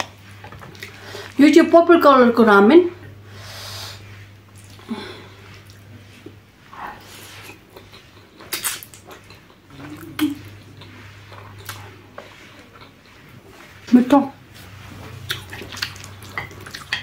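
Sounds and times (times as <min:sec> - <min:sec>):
slurping noodles: 0:03.3 - 0:17.0.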